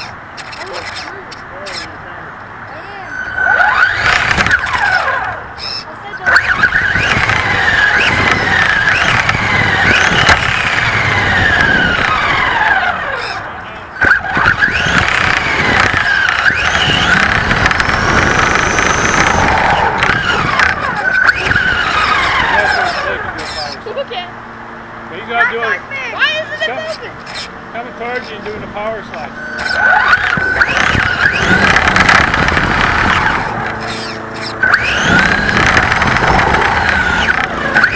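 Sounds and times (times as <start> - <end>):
toy car motor whining: 0.0 - 2.0, 2.8 - 24.2, 25.3 - 28.4, 29.1 - 37.9.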